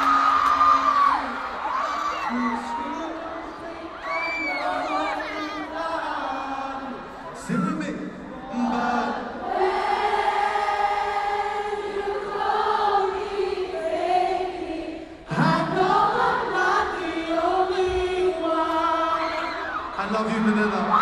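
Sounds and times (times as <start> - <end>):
choir singing over sound system: 0.0 - 21.0.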